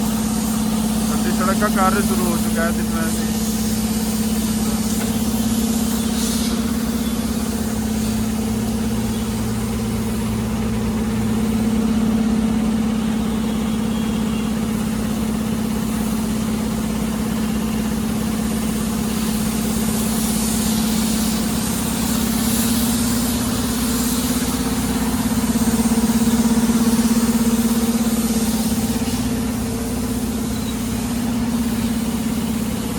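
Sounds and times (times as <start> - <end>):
machine engine humming: 0.0 - 32.9.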